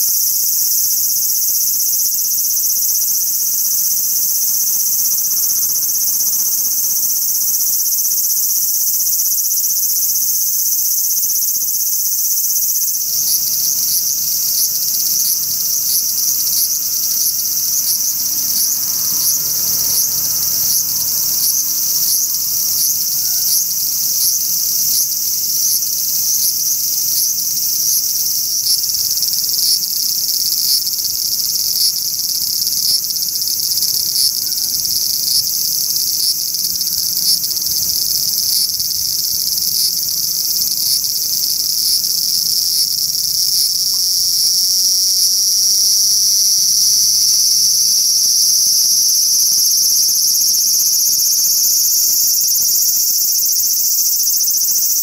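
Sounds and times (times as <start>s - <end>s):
cicada buzzing drone: 0.0s - 55.0s.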